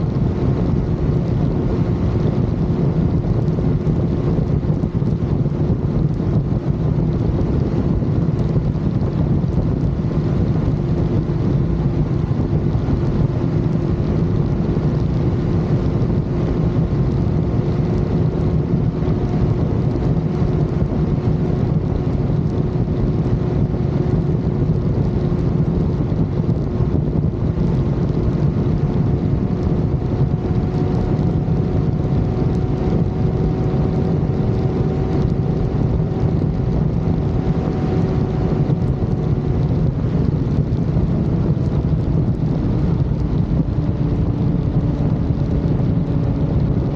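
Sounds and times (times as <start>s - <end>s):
motorcycle engine hum: 0.0s - 46.9s
road noise: 0.0s - 46.9s
wind rush: 0.0s - 46.9s.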